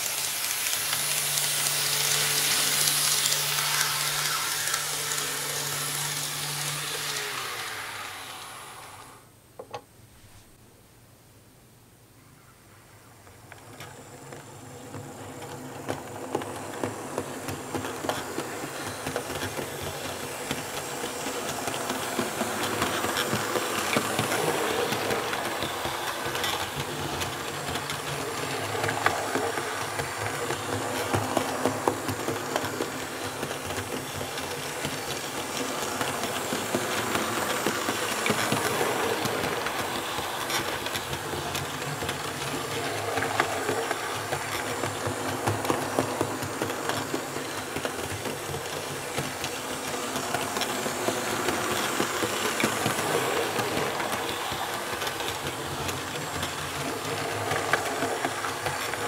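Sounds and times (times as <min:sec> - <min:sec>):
wheels clicking over rail joints: 0:00.0 - 0:07.9, 0:13.5 - 0:59.0
model train motor hum and rumble: 0:00.0 - 0:09.2, 0:13.5 - 0:59.0.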